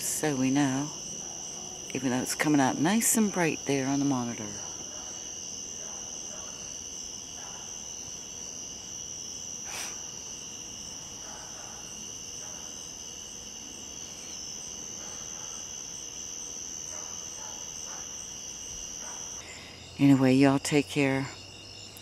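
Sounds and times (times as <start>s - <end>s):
crickets and night insects chirring: 0.0s - 22.0s.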